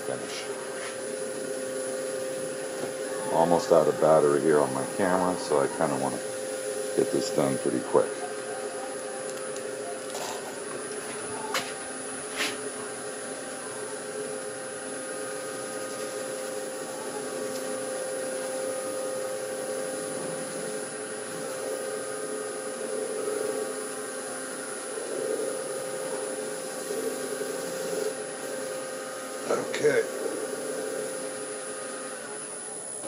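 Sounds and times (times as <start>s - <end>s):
wood lathe humming: 0.0s - 33.0s.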